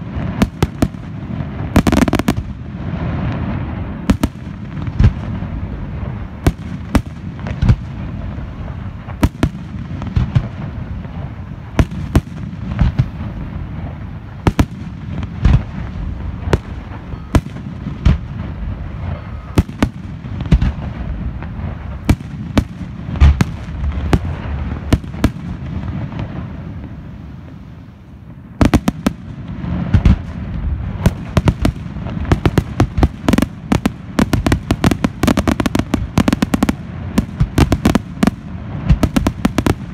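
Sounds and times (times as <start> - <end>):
sharp firework cracks: 0.0 - 27.6, 28.3 - 39.9
firework booms rumbling: 0.0 - 39.9.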